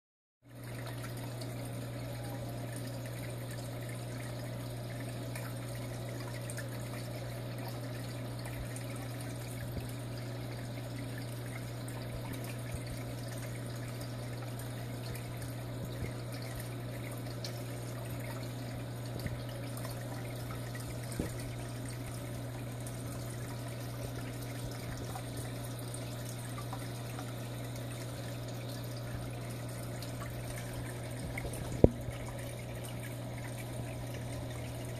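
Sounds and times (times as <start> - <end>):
aquarium filter hum: 0.5 - 34.9
trickling water: 0.5 - 34.9.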